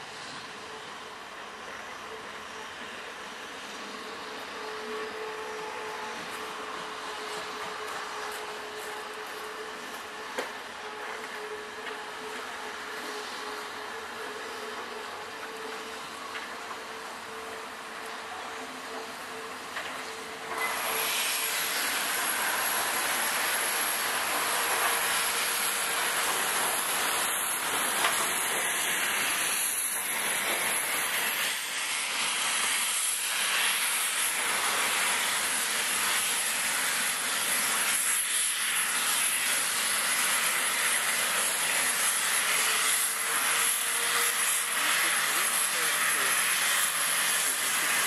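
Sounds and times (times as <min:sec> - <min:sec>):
hiss of steam: 0:00.0 - 0:48.0
train rolling by: 0:00.0 - 0:48.0.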